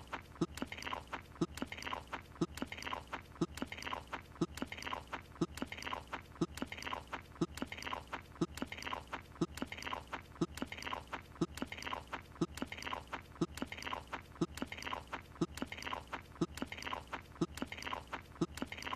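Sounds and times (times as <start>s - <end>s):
cartoon chewing and munching: 0.0s - 18.9s
lip-smacking clicks: 0.0s - 18.9s.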